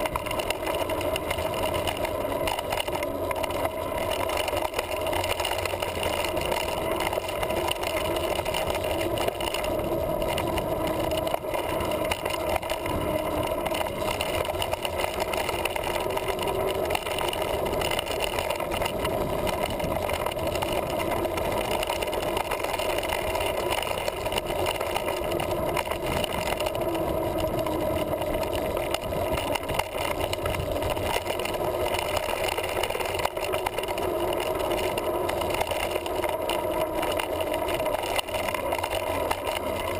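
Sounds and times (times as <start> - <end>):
mountain bike rolling on dirt trail: 0.0 - 39.9.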